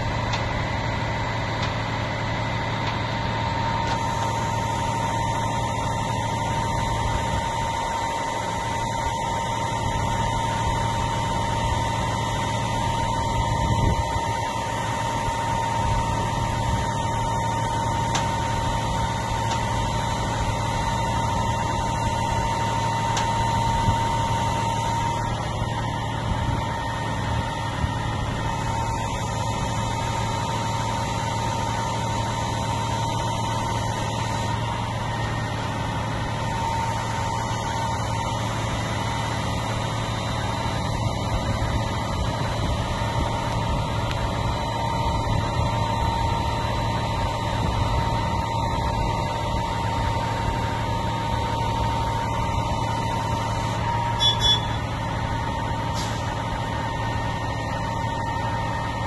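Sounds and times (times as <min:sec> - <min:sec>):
diesel engine idling: 0:00.0 - 0:59.0
thin steady whine: 0:00.0 - 0:59.0.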